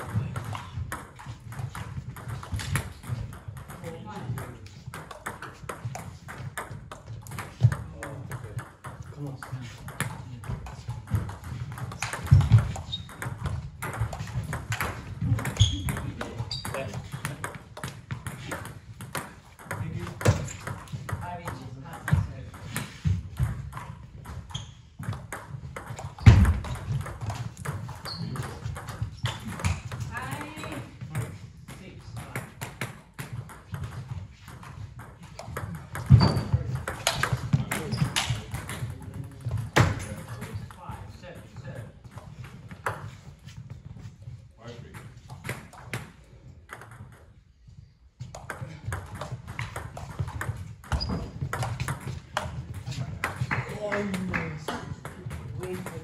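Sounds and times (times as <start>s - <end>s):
table tennis ball knocking: 0.0s - 31.4s, 32.2s - 40.6s, 48.3s - 56.0s.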